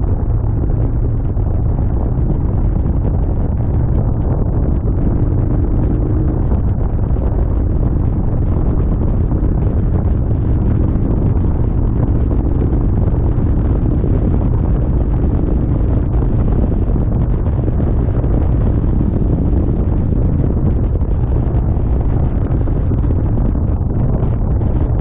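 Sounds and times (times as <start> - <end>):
motorcycle engine drone: 0.0 - 25.0
wind buffeting microphone: 0.0 - 25.0.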